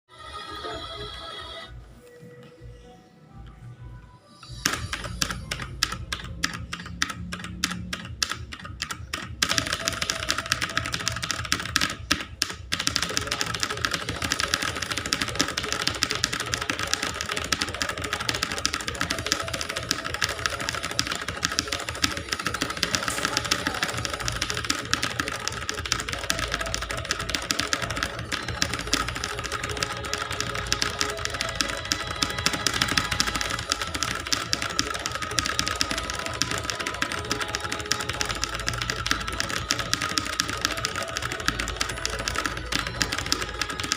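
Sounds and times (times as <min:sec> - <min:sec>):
typing on clicky keyboard: 0:04.4 - 0:43.9.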